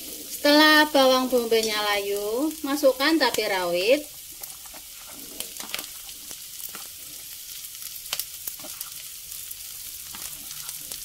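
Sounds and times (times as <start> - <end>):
onion and garlic sizzling: 0.0 - 11.0.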